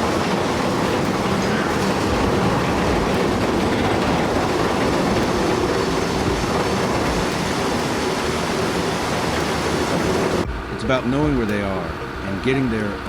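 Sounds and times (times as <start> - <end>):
heavy vehicle running: 0.0 - 13.0.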